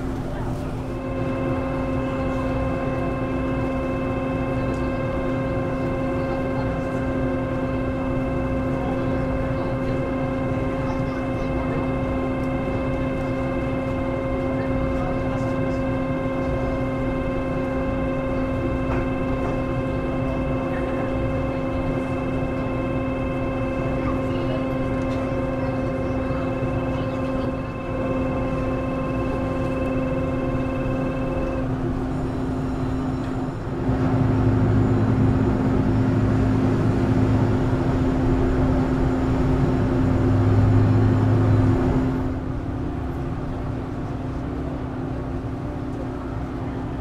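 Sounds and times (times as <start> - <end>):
ferry engine low rumble: 0.0 - 47.0
machinery whining hum: 0.0 - 47.0.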